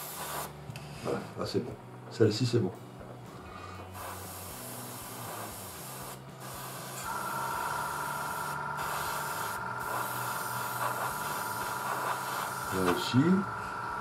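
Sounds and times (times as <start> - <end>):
airbrush hissing: 0.0 - 0.7, 3.4 - 14.0.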